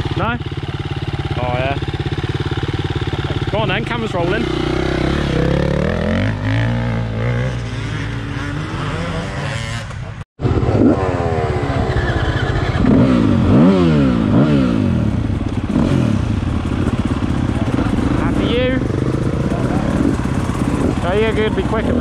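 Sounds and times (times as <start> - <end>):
dirt bike engine revving: 0.0 - 22.0
dirt bike engine running: 0.0 - 22.0.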